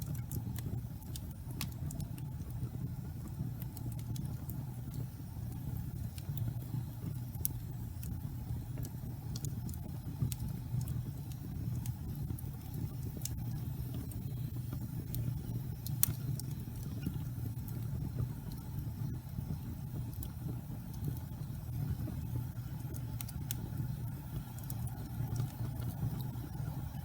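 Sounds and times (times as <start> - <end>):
burning wood crackling and popping: 0.0 - 27.0
fire roaring in fireplace: 0.0 - 27.0.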